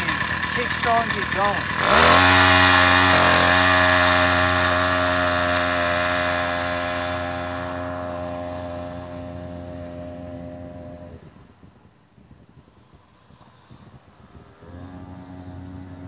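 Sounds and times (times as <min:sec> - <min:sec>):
small engine at high revs: 0:00.0 - 0:11.5, 0:13.3 - 0:16.0.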